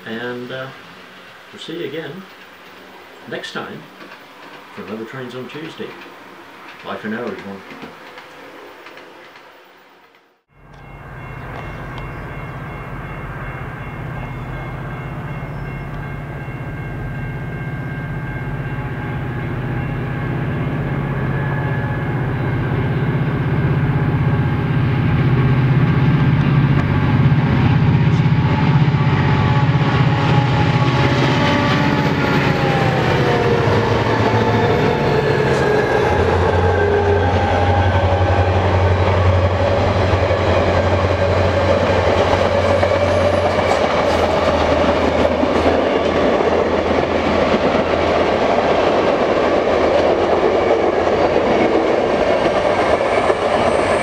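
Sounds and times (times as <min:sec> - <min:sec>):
passenger coaches rumbling: 0:00.0 - 0:09.6, 0:10.5 - 0:54.0
diesel locomotives passing: 0:00.0 - 0:54.0.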